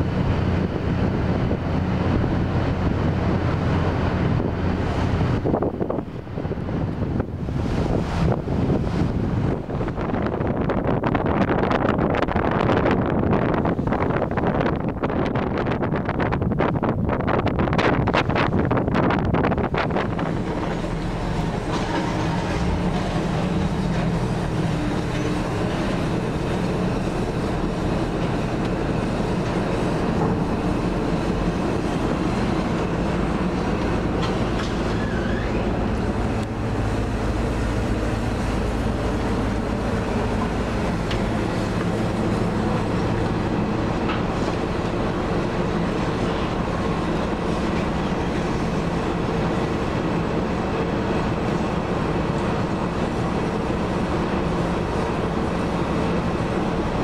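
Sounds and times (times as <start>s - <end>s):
ferry engines droning: 0.0s - 15.4s, 17.8s - 57.0s.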